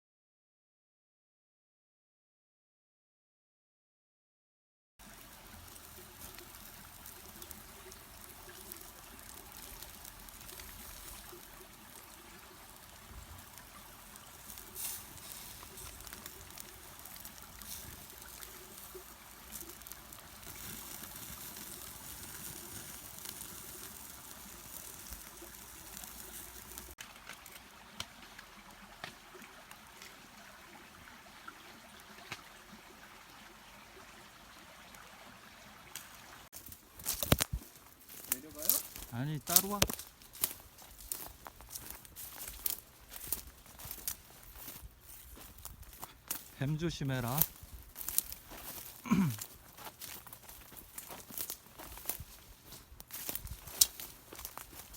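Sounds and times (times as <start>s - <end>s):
mountain stream running: 5.0s - 54.9s.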